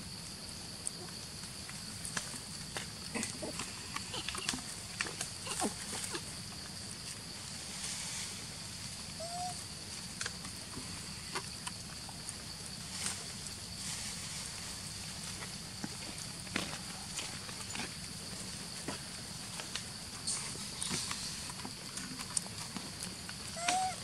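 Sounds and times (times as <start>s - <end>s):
high insect drone: 0.0s - 24.0s
rustles in grass and leaves: 0.0s - 24.0s.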